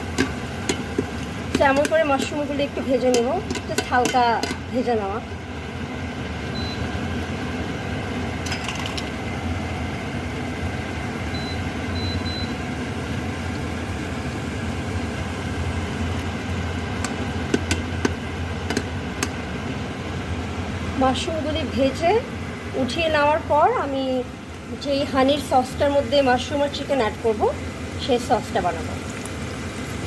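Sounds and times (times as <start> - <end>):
mushrooms sizzling in oil: 0.0 - 30.0
steady low hum: 0.0 - 30.0.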